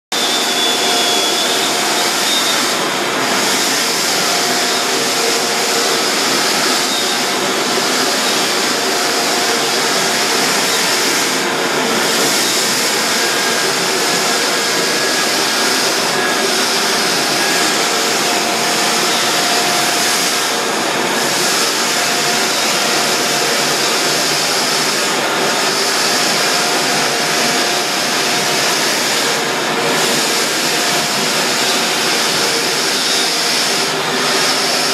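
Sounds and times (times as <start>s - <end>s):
floor sander whirring: 0.1s - 34.9s.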